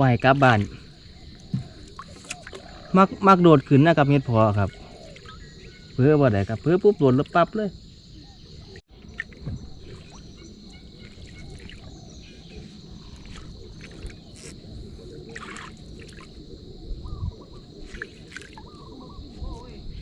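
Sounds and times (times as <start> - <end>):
crickets droning: 0.0 - 20.0.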